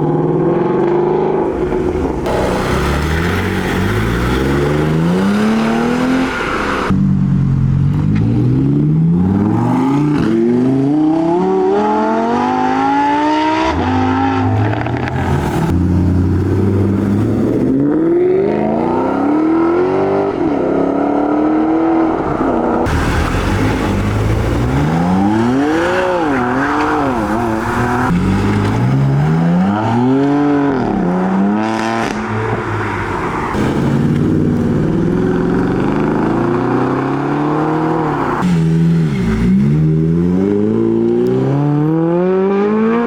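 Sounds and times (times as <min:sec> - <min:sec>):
car engines accelerating hard: 0:00.0 - 0:43.0.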